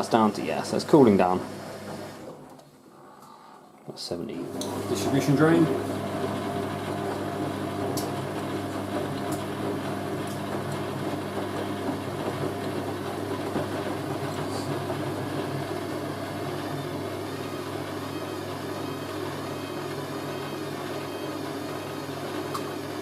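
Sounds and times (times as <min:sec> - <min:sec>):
drain pump humming: 0:00.0 - 0:02.5, 0:04.4 - 0:23.0.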